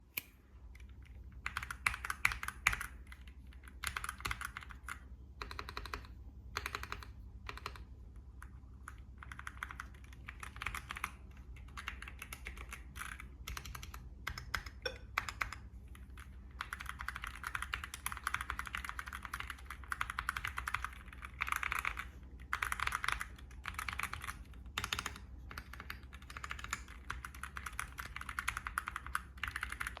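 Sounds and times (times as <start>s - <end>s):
mechanical keyboard typing: 0.8s - 30.0s.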